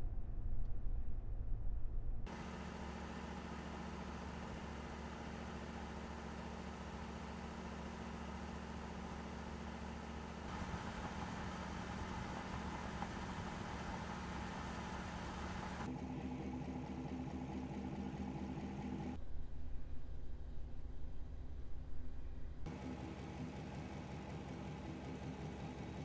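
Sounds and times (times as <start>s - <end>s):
low in-cab rumble: 0.0s - 26.0s
truck engine hum: 2.3s - 26.0s.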